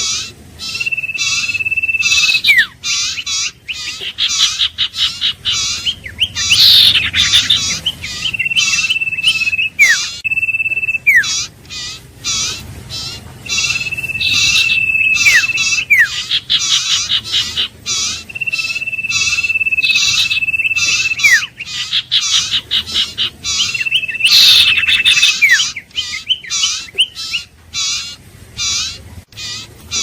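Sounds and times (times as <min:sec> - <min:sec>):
bird whistles: 0:00.0 - 0:30.0
rapid bird chattering: 0:00.0 - 0:30.0.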